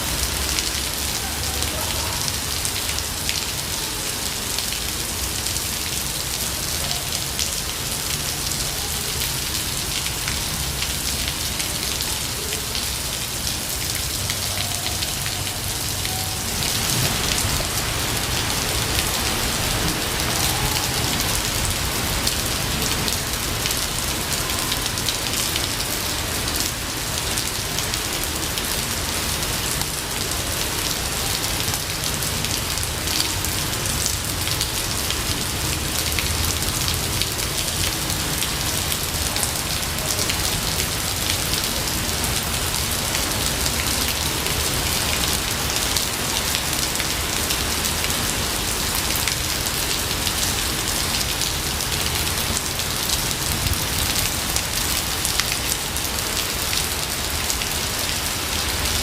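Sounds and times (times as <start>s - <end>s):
rain pattering in forest: 0.0s - 59.0s.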